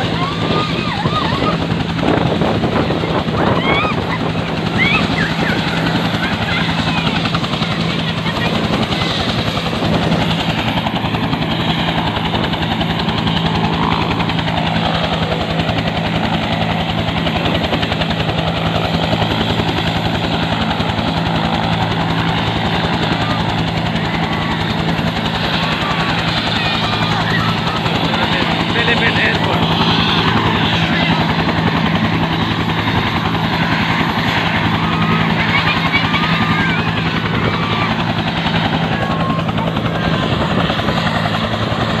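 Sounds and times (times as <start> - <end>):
helicopter engine hum: 0.0 - 42.0
helicopter rotor blade chop: 0.0 - 42.0.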